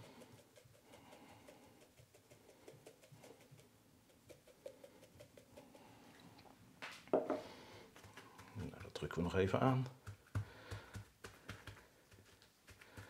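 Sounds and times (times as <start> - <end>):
seasoning granules pattering on meat: 0.0 - 6.1, 7.5 - 13.0.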